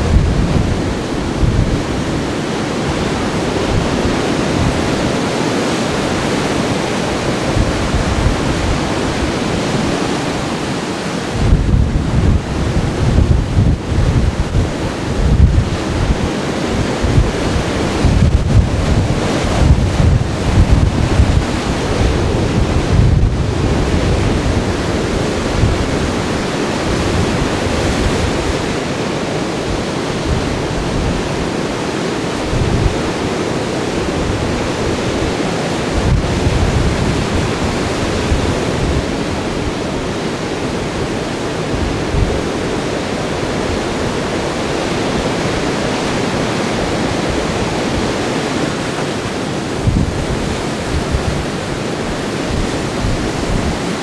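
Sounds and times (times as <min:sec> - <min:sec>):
heavy surf breaking: 0:00.0 - 0:54.0
wind buffeting the microphone: 0:00.0 - 0:54.0.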